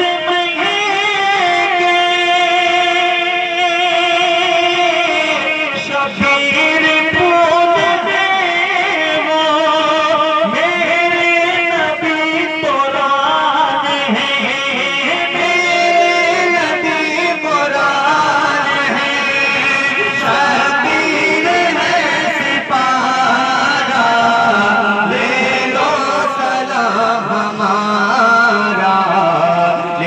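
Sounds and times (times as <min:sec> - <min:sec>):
chant over loudspeakers: 0:00.0 - 0:30.0.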